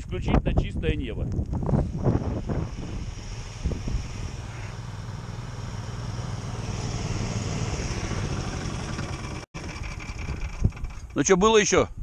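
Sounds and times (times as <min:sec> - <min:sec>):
snow tow engine running: 0:01.5 - 0:11.2.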